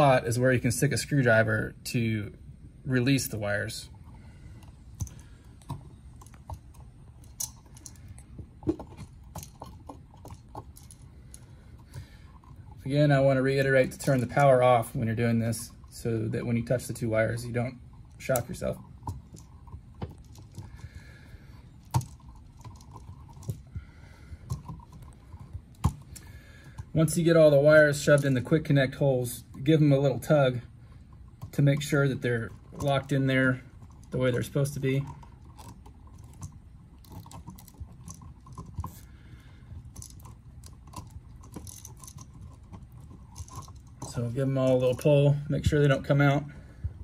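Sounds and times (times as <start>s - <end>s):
wires and plastic outlet rattling: 2.9s - 47.0s.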